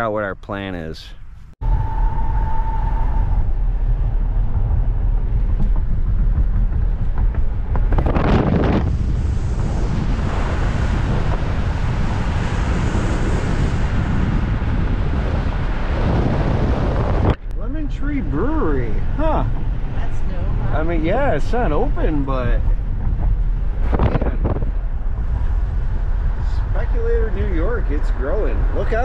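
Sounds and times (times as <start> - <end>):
road noise: 0.0 - 29.0
wind buffeting microphone: 1.2 - 29.0.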